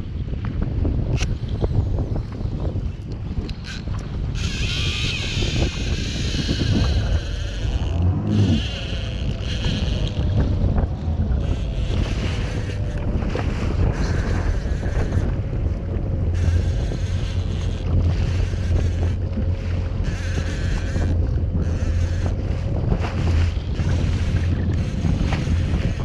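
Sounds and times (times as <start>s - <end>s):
low engine hum: 0.0s - 26.0s
water splashing against hull: 0.0s - 26.0s
wind buffeting microphone: 0.0s - 26.0s.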